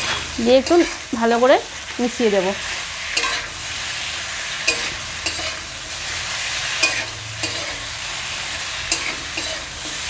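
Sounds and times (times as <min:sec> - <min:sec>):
fish sizzling in hot oil: 0:00.0 - 0:10.0
spatula scraping pan: 0:00.0 - 0:10.0.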